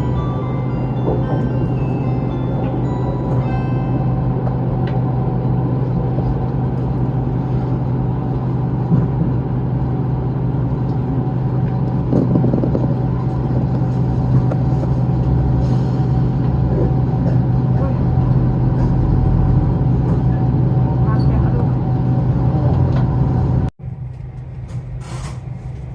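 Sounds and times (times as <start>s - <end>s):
diesel railcar engine hum: 0.0s - 25.9s
train running rumble: 0.0s - 25.9s.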